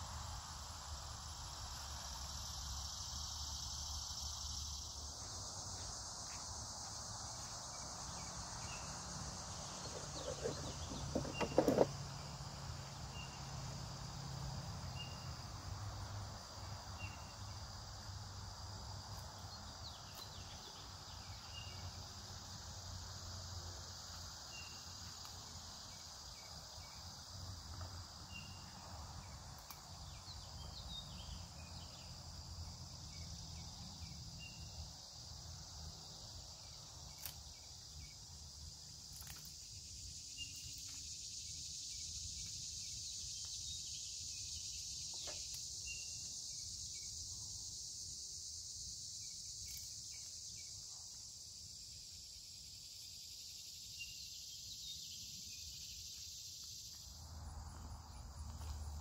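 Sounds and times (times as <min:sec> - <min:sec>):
insect chorus shrilling: 0:00.0 - 0:59.0.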